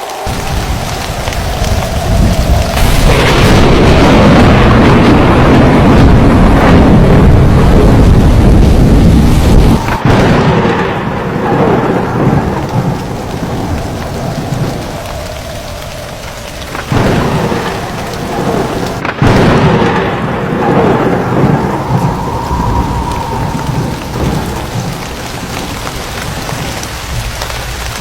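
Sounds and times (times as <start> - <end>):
rain falling: 0.0 - 28.0
thunder cracking and rumbling: 0.0 - 28.0.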